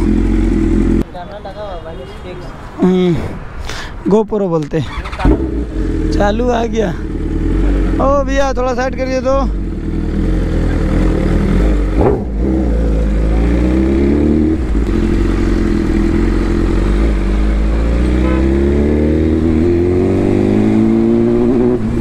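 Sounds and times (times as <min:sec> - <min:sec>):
motorcycle engine accelerating: 0:00.0 - 0:01.0, 0:05.0 - 0:22.0.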